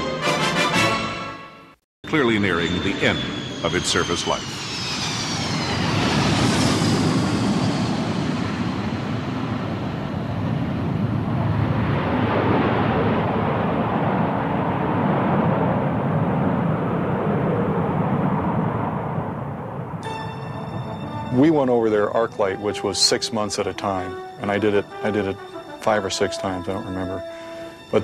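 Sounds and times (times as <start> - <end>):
high turbine whine: 2.0 - 28.0
jet engines roaring: 2.0 - 28.0.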